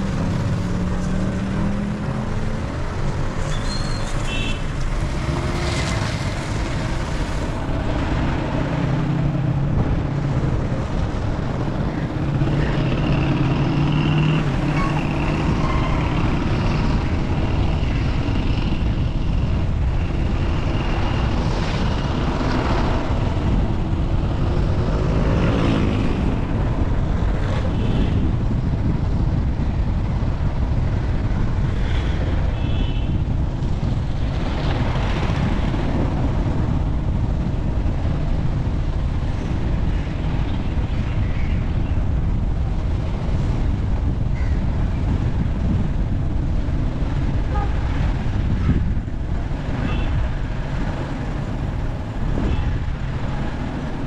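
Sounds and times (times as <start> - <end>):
vehicle engine and tyre rumble: 0.0 - 54.0
wind on microphone: 0.0 - 54.0.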